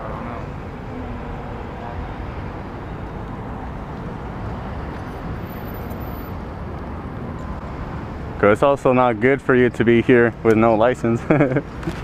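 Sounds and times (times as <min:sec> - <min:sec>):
low rumble of vehicle engines: 0:00.0 - 0:12.0.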